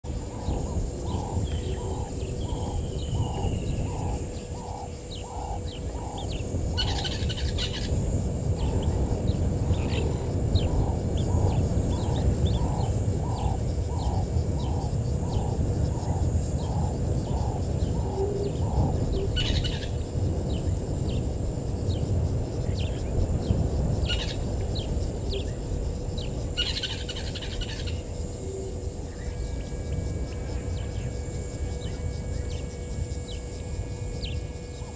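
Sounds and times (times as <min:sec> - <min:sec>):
low rumbling background noise: 0:00.0 - 0:34.9
steady high hiss: 0:00.1 - 0:34.9.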